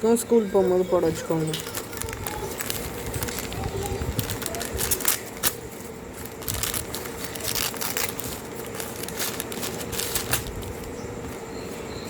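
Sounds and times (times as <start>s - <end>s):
paper crinkling: 0.9s - 11.4s.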